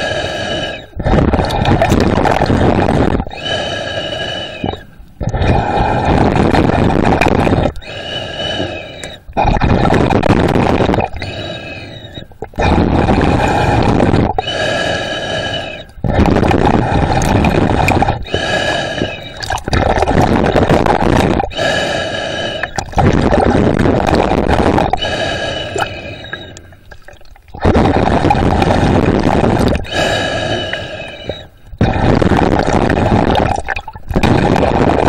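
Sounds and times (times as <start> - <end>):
heavy breathing through snorkel: 0.0 - 26.9, 27.6 - 35.0.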